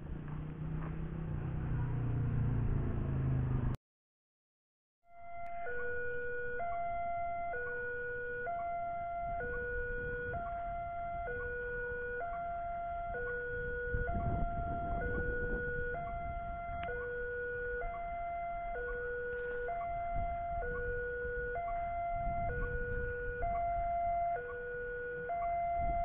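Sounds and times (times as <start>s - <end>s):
two-tone level crossing alarm: 5.1s - 26.0s.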